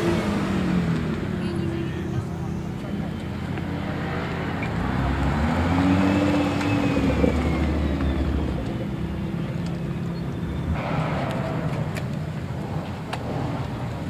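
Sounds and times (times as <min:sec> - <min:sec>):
engines rumbling: 0:00.0 - 0:14.0.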